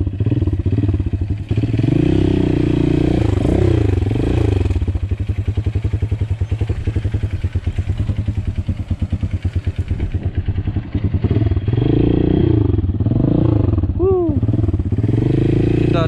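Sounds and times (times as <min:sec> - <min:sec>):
motorcycle engine chugging and revving: 0:00.0 - 0:16.0.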